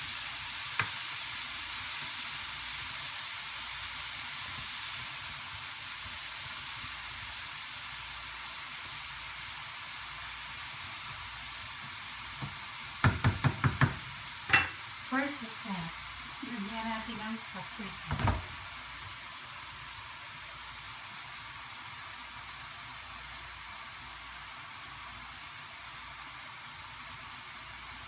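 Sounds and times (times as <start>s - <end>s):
greens sizzling in a frying pan: 0.0s - 28.0s.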